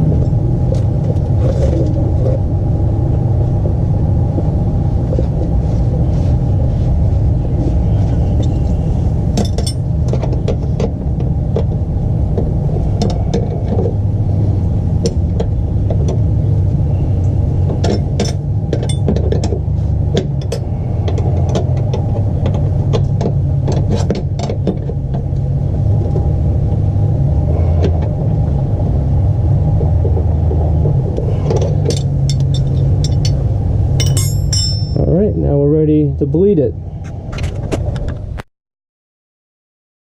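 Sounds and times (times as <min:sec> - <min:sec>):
steady low rumble: 0:00.0 - 0:38.4.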